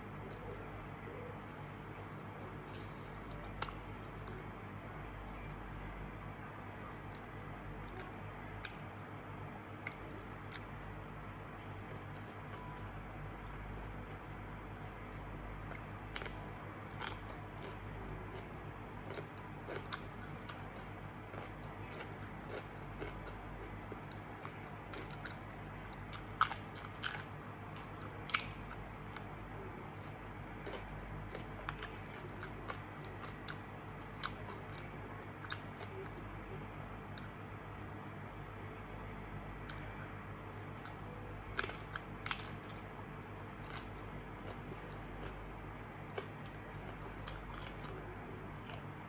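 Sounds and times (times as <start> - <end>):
low hum: 0.0 - 49.0
crunching and chewing food: 0.1 - 49.0.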